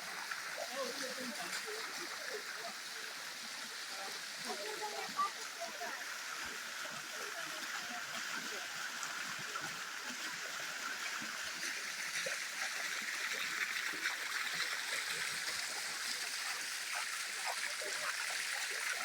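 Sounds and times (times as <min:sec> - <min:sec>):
waterfall splashing over rock: 0:00.0 - 0:19.0.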